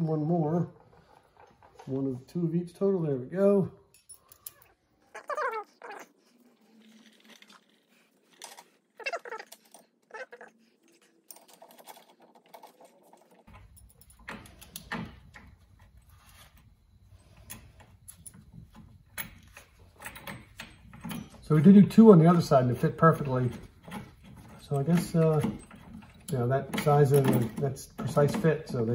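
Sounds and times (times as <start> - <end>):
metal parts clicking and clinking: 3.9 - 5.2, 6.5 - 28.9.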